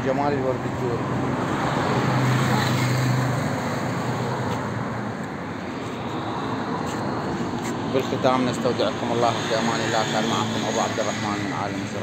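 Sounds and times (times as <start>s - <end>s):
passing vehicles rushing: 0.0s - 12.0s
vehicle engine hum: 0.0s - 12.0s.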